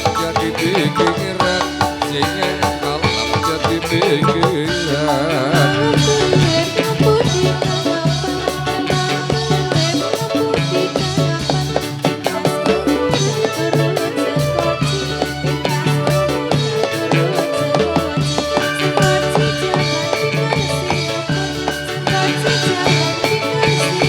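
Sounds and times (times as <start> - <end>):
folk band melody: 0.0 - 24.0
hand drums beating: 0.0 - 24.0.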